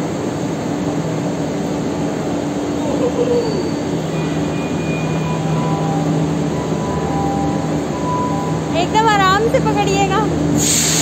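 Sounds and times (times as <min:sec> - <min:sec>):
escalator mechanical drone: 0:00.0 - 0:10.6.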